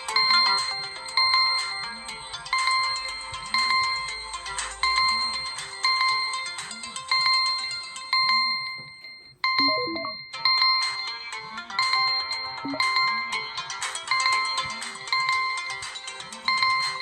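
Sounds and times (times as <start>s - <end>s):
melodic tone: 0.0s - 17.0s
ringing beep: 0.0s - 17.0s.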